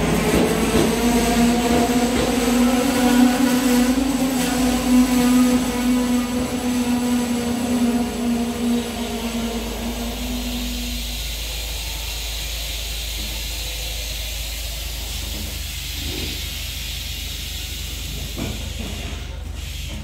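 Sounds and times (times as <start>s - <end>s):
train air hissing: 0.0s - 20.0s.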